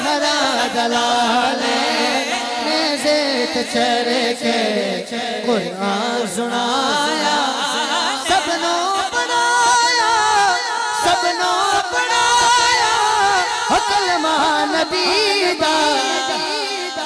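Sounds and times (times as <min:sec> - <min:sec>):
man singing into microphone: 0:00.0 - 0:17.0
men singing along: 0:00.0 - 0:17.0.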